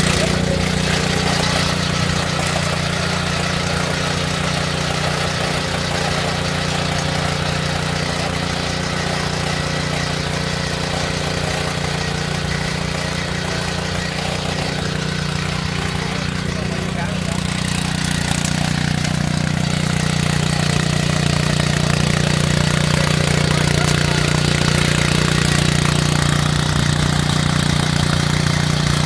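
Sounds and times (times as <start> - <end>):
small tiller engine running: 0.0 - 29.0
tines churning dry soil: 0.0 - 29.0.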